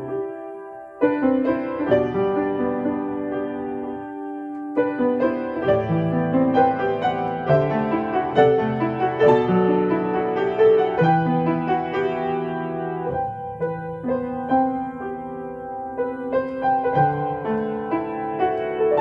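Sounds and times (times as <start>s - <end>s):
slow gentle solo piano: 0.0s - 19.0s.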